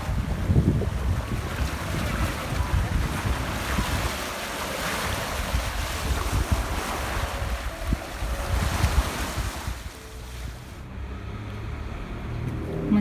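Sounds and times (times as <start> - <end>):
wind buffeting microphone: 0.0 - 10.7
waves washing onto shore: 0.0 - 10.8.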